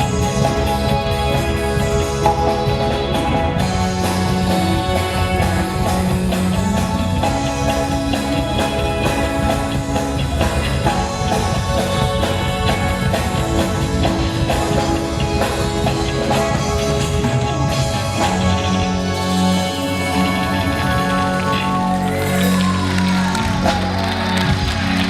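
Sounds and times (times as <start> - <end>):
drum kit: 0.0 - 25.0
electric guitar: 0.0 - 25.0
rock band playing live: 0.0 - 25.0.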